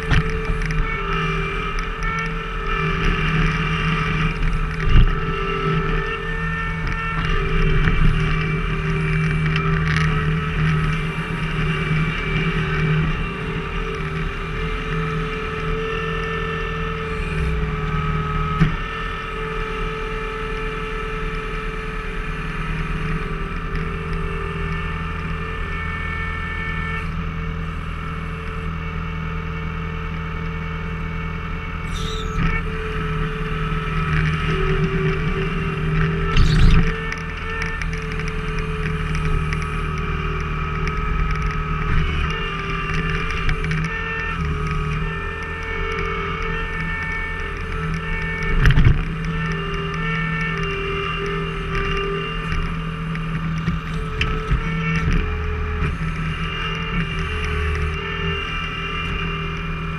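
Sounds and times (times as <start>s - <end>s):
skid steer engine under load: 0.0s - 59.9s.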